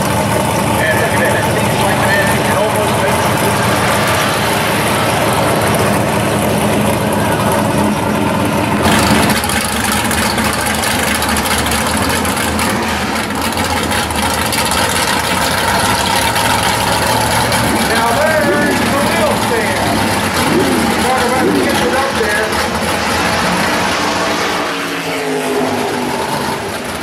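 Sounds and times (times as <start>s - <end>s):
car engine idling: 0.0s - 27.0s
car engine pulsing idle: 0.0s - 27.0s.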